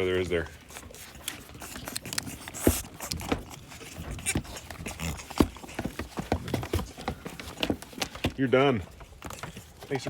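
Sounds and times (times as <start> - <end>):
goat kids knocking and clicking: 0.6 - 10.0.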